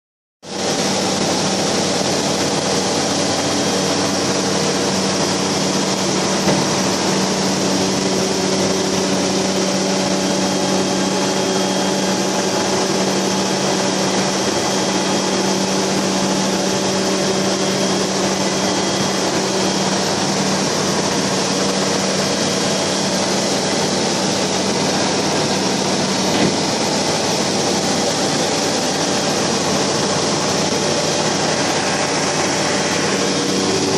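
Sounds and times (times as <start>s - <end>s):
light aircraft engine and propeller: 0.5s - 33.9s.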